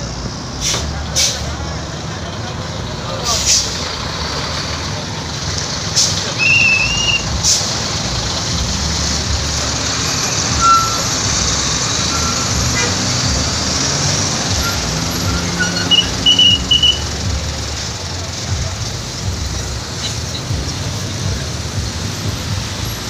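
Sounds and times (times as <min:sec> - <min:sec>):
bus engines rumbling: 0:00.0 - 0:23.0.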